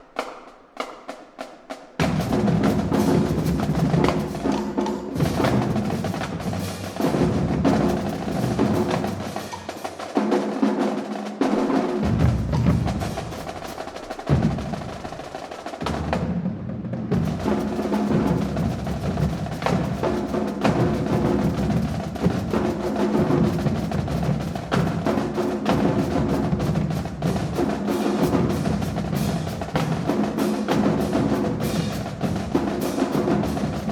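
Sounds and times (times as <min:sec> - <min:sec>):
cymbals: 0:00.0 - 0:16.5, 0:17.1 - 0:33.9
marching drumline playing: 0:00.0 - 0:33.9.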